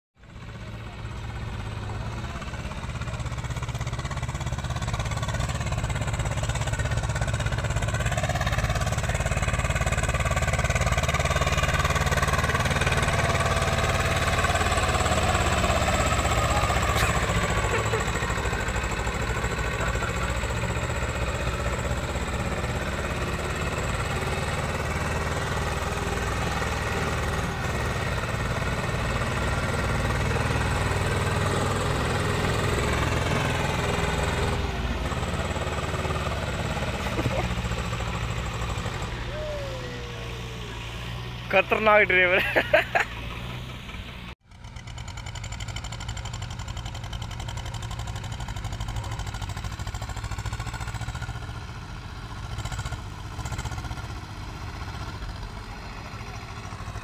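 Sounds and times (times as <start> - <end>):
tractor diesel engine under load: 0.2 - 57.0.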